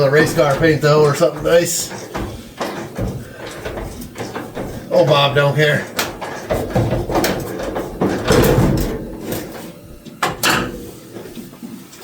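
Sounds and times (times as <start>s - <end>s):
metal hood clunking and scraping: 0.0s - 12.0s.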